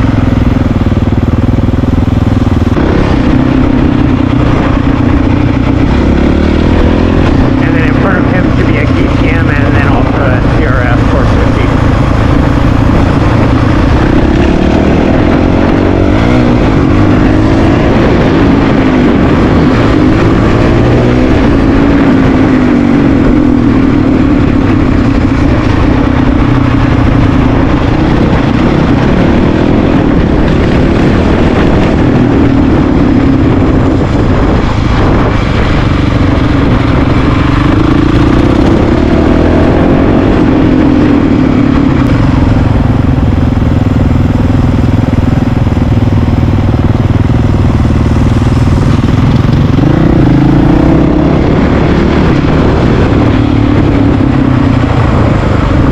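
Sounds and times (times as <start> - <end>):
motorcycle engine revving: 0.0 - 55.9
steady rushing noise: 0.0 - 55.9.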